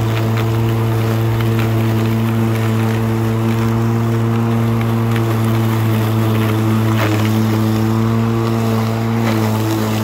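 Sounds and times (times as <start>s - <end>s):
electric lawn mower humming: 0.0s - 10.0s.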